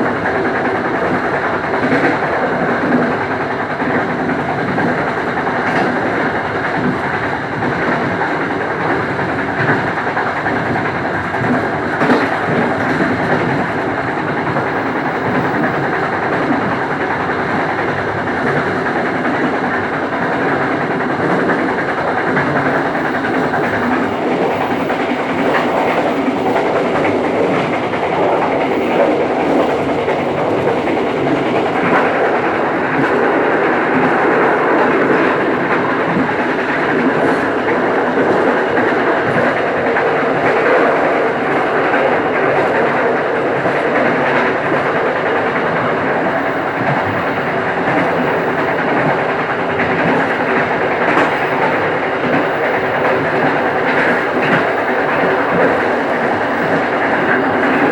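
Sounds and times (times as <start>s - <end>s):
clickety-clack over rail joints: 0.0s - 57.9s
train wheels rumbling on rails: 0.0s - 57.9s.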